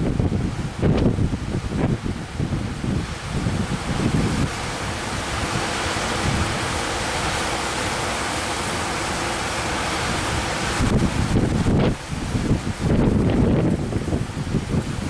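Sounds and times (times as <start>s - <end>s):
heavy surf breaking on beach: 0.0s - 15.0s
wind buffeting microphone: 0.0s - 15.0s.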